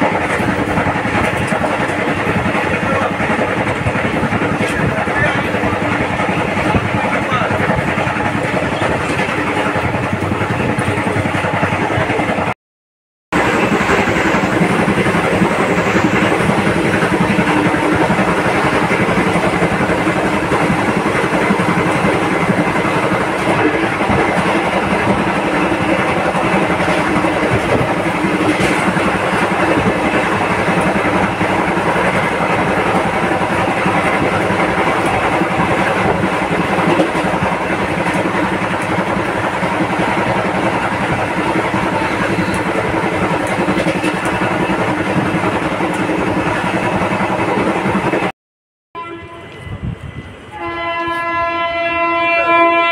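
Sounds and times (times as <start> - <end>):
train running at speed: 0.0 - 12.6, 13.3 - 48.3, 49.0 - 52.9.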